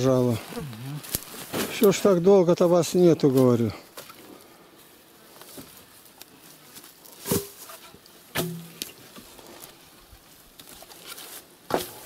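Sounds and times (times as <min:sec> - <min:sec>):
faint rustling of grass: 0:00.0 - 0:12.0.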